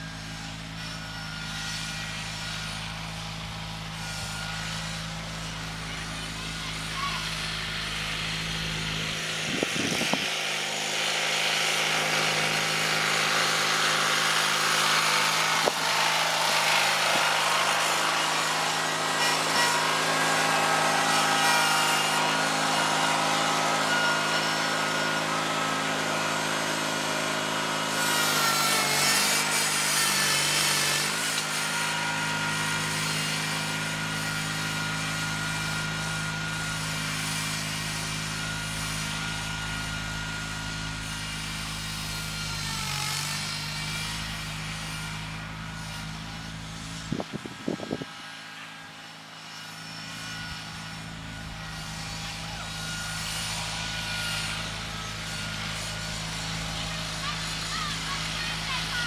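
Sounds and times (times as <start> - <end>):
garden tractor engine under load: 0.0 - 59.0.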